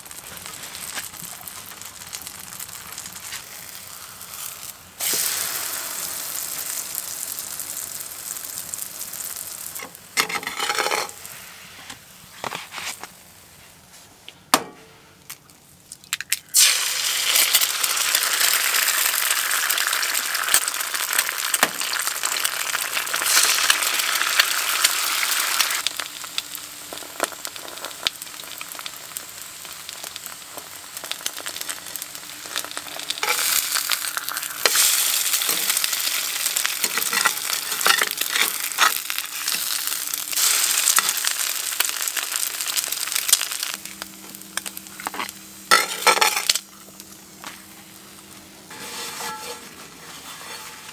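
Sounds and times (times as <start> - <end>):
food sizzling in frying pan: 0.0 - 13.0, 16.5 - 50.9.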